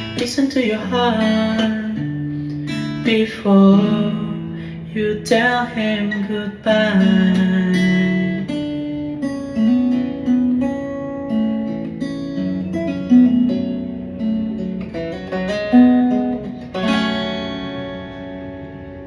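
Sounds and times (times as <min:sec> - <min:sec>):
acoustic guitar picking notes: 0:00.0 - 0:19.0
guitar chord strummed: 0:00.0 - 0:19.0.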